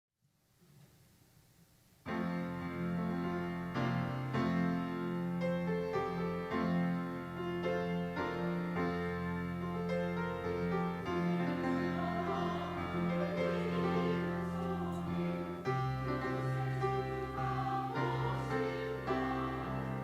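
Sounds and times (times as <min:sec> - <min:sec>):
piano-like keyboard chords: 0:02.1 - 0:20.0.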